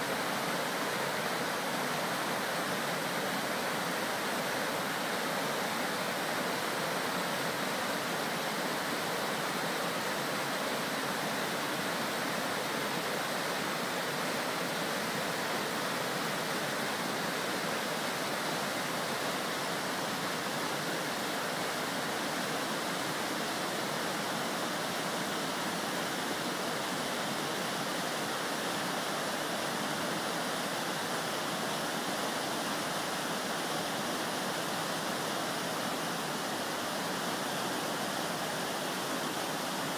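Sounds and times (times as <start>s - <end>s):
whitewater rapids rushing: 0.0s - 39.9s.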